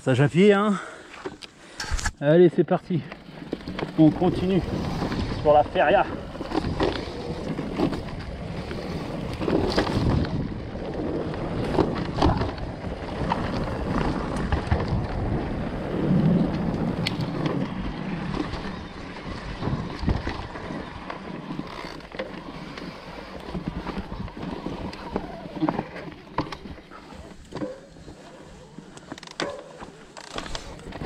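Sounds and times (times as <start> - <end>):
bike knocking and rattling: 3.0 - 31.0
tyres rolling over dirt: 3.0 - 31.0.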